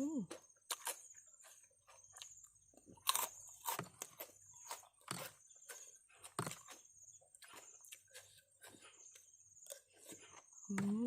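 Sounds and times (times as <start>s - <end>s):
crunching and chewing: 0.0s - 10.9s
crickets chirring: 0.0s - 11.0s.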